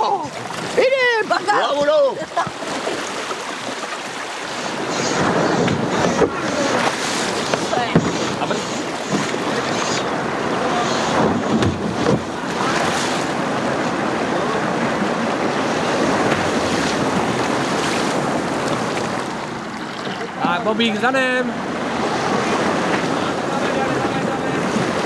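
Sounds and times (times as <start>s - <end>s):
water rushing over a weir: 0.0s - 25.0s.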